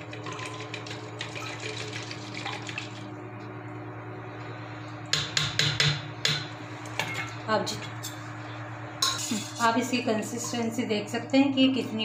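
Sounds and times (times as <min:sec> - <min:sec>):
steady low hum: 0:02.0 - 0:12.0.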